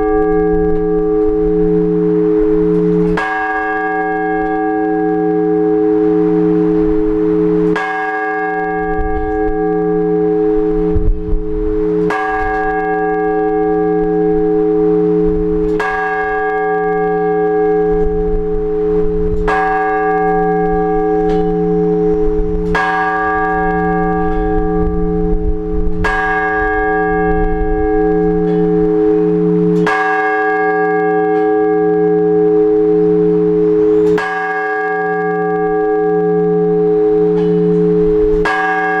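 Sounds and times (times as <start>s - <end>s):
large church bell tolling: 0.0s - 39.0s.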